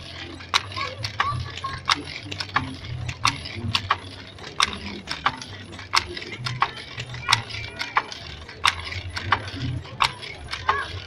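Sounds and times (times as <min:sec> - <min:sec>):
handloom wooden clacks: 0:00.0 - 0:11.0.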